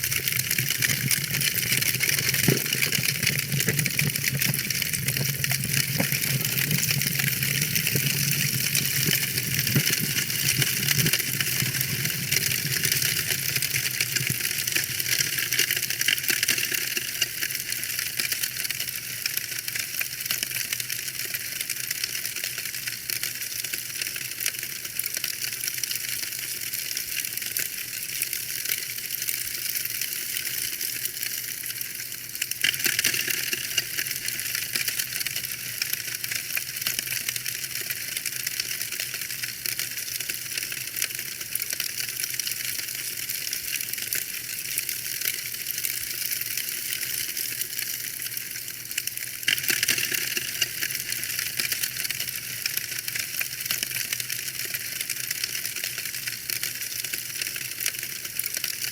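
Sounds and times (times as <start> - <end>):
wood fire crackling: 0.0 - 21.4, 22.0 - 58.9.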